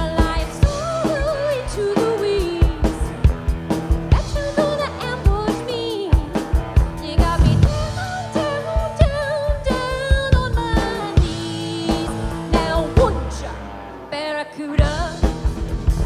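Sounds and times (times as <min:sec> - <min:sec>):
drum kit beating: 0:00.0 - 0:14.2, 0:14.8 - 0:16.0
electric guitar: 0:00.0 - 0:16.0.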